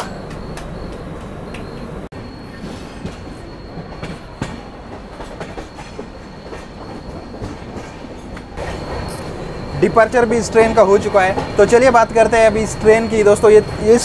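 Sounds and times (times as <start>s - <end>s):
train coach running rumble: 0.0s - 14.0s.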